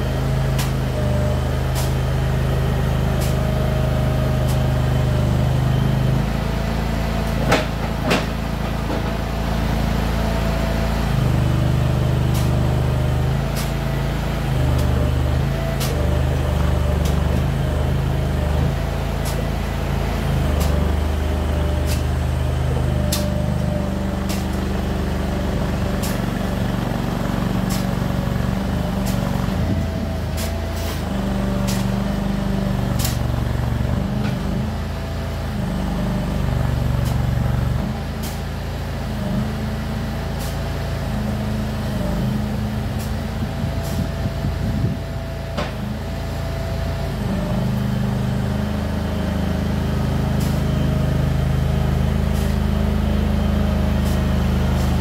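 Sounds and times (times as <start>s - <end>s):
loader engine running: 0.0s - 55.0s.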